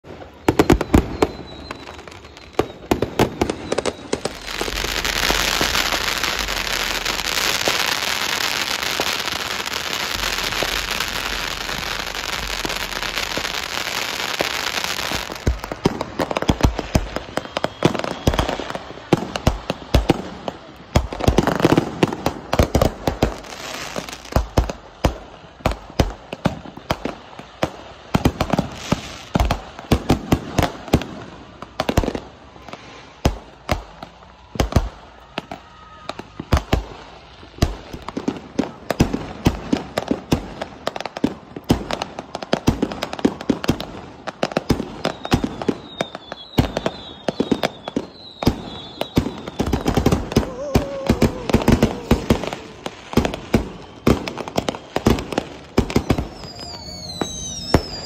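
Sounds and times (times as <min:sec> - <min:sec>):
faint firework whistles: 0:00.0 - 0:58.0
fireworks bangs and crackles: 0:00.0 - 0:58.0.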